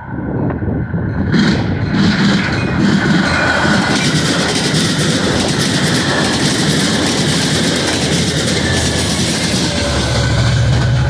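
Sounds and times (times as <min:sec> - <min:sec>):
train coaches rumbling past: 0:00.0 - 0:11.0
wheels clacking over rail joints: 0:01.0 - 0:11.0.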